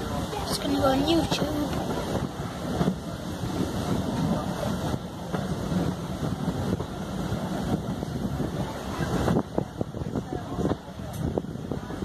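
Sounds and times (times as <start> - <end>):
train running on track: 0.0 - 12.0
wind buffeting microphone: 0.0 - 12.0.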